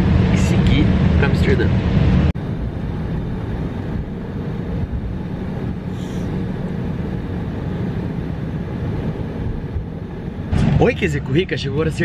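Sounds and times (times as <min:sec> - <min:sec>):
jet engines at low power: 0:00.0 - 0:12.0
low rumble: 0:00.0 - 0:12.0.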